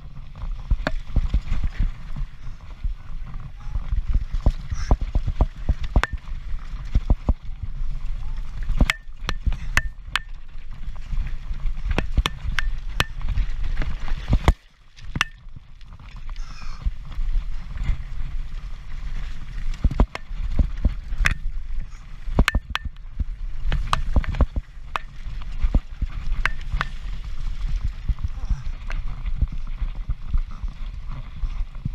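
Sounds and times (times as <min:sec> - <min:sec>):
wind rumble on microphone: 0:00.0 - 0:31.9.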